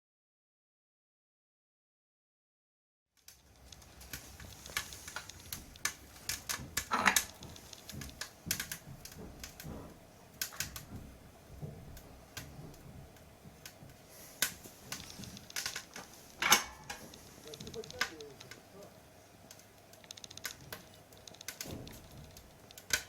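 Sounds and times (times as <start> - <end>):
irregular clicks and light knocks: 3.2 - 23.0.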